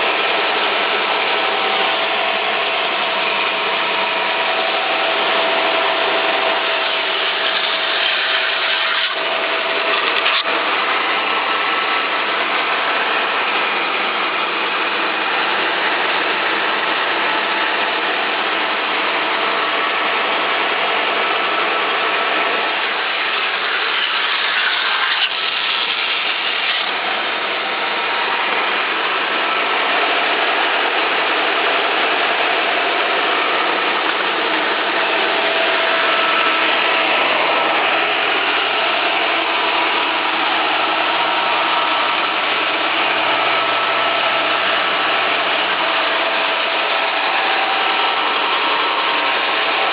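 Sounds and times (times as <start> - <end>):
band saw whirring: 0.0 - 49.9.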